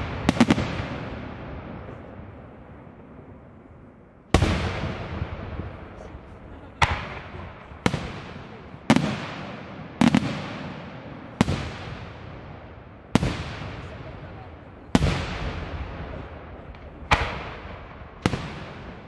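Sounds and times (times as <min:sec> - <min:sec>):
rolling echo: 0:00.0 - 0:19.0.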